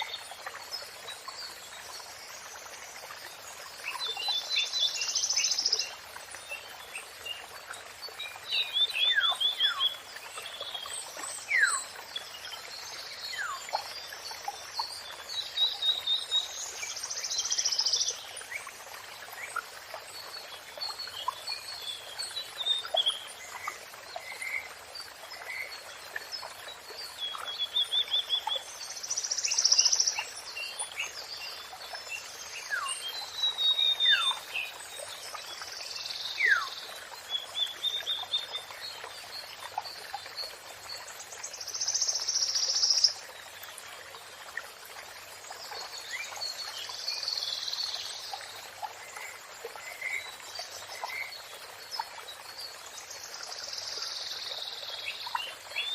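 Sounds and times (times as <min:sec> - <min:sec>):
songbirds singing: 0:00.0 - 0:44.4, 0:45.3 - 0:55.9.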